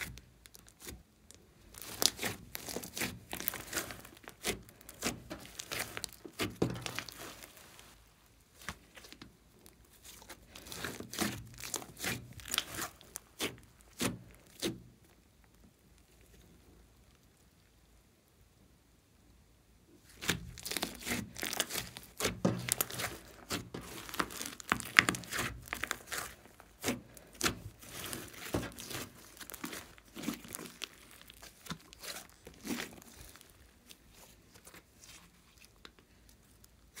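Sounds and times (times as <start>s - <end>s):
slime crackling and popping: 0.0s - 17.8s, 20.0s - 37.0s.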